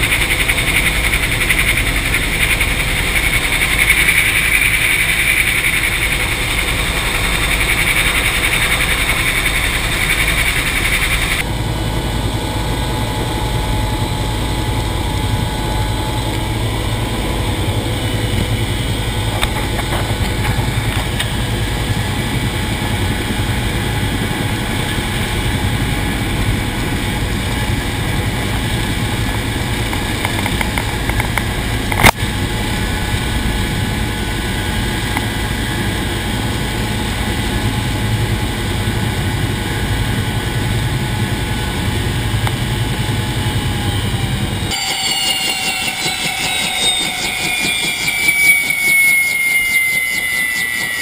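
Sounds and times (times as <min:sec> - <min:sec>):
helicopter engine and rotor drone: 0:00.0 - 0:51.0.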